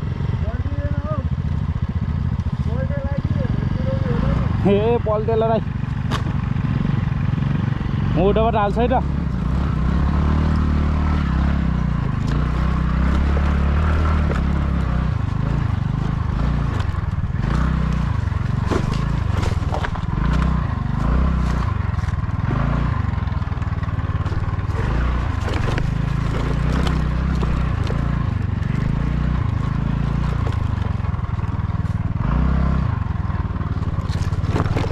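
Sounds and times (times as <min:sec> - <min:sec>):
bike knocking and scraping: 0:00.0 - 0:06.9, 0:08.2 - 0:34.9
motorcycle engine at low revs: 0:00.0 - 0:34.9.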